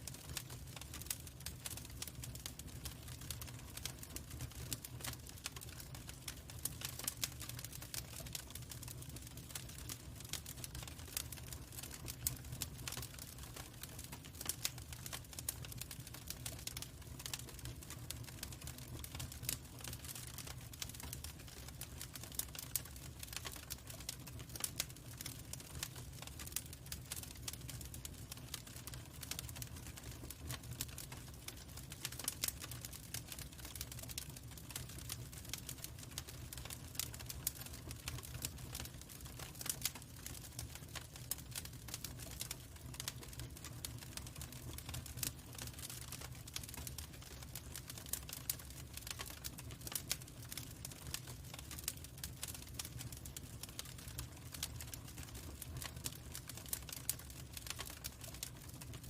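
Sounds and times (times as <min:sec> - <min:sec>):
log fire crackling: 0:00.0 - 0:59.0.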